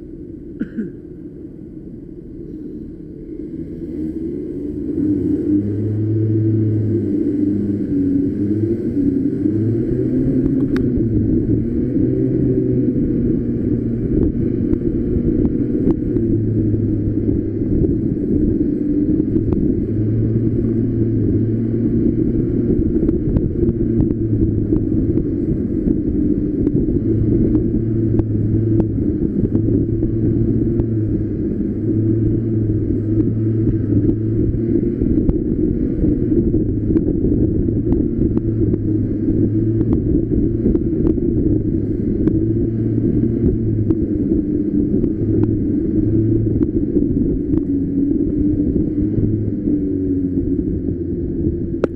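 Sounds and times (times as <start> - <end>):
go-kart engine rumbling: 0.0 - 51.9.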